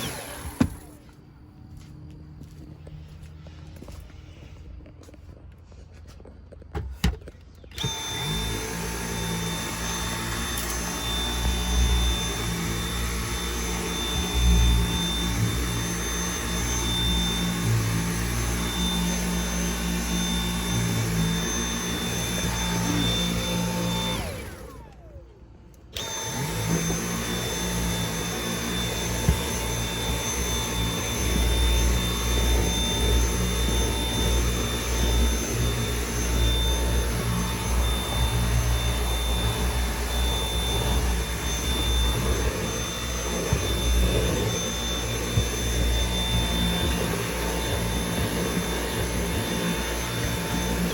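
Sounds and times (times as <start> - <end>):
vacuum cleaner whine: 0.0 - 5.2, 6.2 - 50.9.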